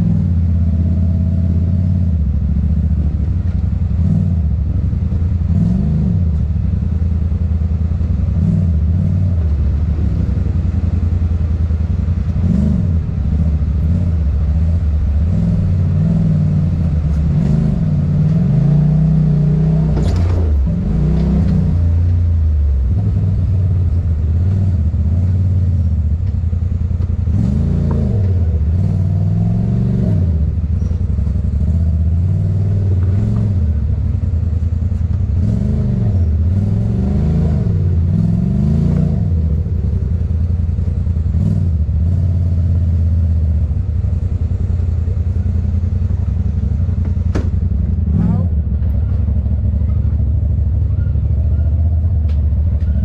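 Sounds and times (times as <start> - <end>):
utility vehicle engine revving: 0.0 - 53.0.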